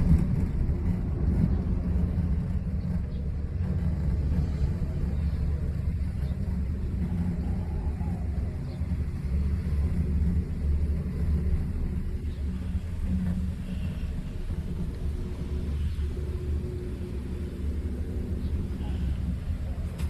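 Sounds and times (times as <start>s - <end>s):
cable car gondola rumbling: 0.0s - 20.0s.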